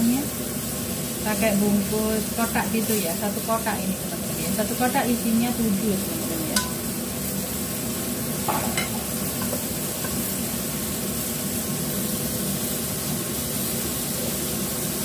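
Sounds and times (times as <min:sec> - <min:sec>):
mussels sizzling in a wok: 0:00.0 - 0:15.0.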